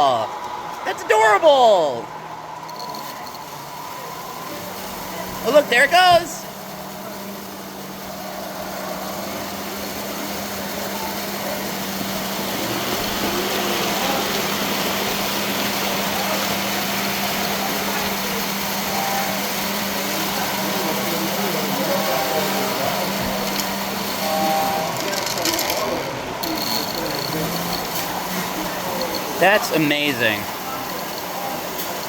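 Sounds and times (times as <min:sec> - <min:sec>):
model train mechanical whir: 0:02.6 - 0:32.0.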